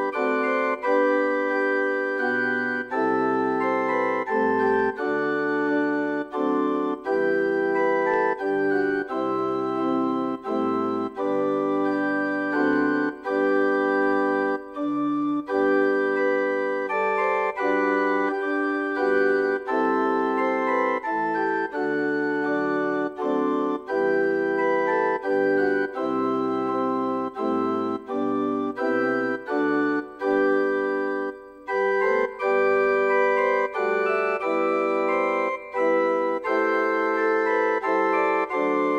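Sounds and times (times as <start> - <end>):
organ playing a hymn: 0.0 - 38.9.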